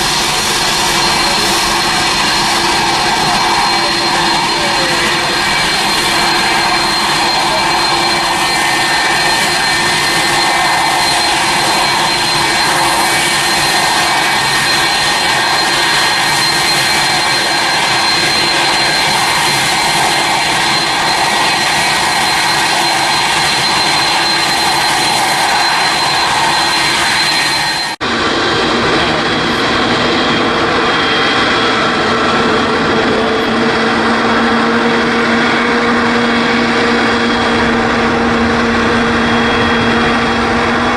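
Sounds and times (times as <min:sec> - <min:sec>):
high engine whine: 0:00.0 - 0:40.9
jet engines running: 0:00.0 - 0:40.9.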